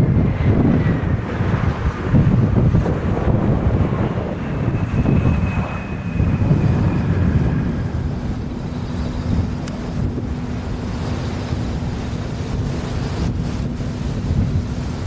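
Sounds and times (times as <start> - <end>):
jet engine whine: 0.0 - 15.0
steady low hum: 0.0 - 15.0
wind rumble on microphone: 0.0 - 15.0.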